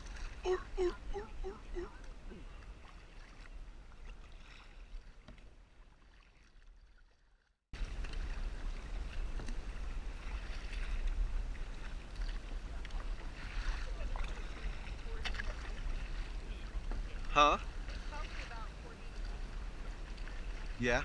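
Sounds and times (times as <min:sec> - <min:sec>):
water sloshing around a kayak: 0:00.0 - 0:21.0.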